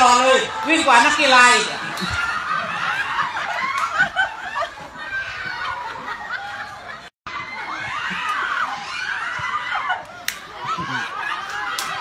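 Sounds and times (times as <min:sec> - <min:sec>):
people chattering: 0:00.0 - 0:12.0
people laughing and giggling: 0:00.0 - 0:12.0.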